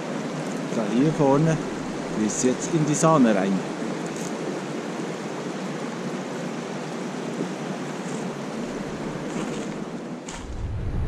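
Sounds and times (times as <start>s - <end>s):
river rushing: 0.0s - 10.6s.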